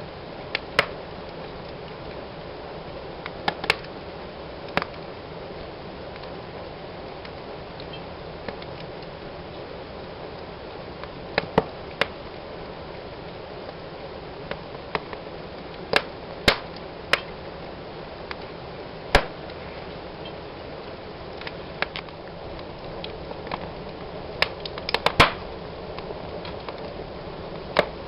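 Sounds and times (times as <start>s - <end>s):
fire burning in a fireplace: 0.0s - 28.0s
fire crackling pops: 0.0s - 28.0s.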